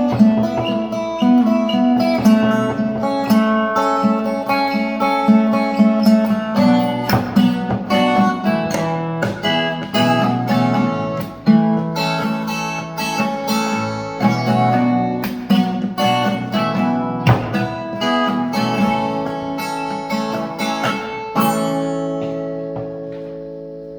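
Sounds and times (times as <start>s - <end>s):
guitar chords strummed: 0.0s - 23.9s.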